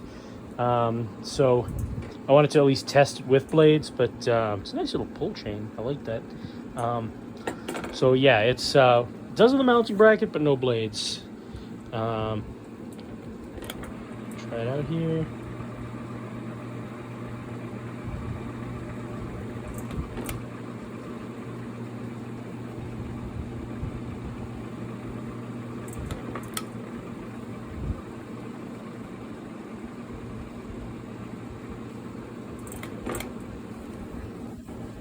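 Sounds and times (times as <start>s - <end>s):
fan motor humming: 0.0s - 35.0s.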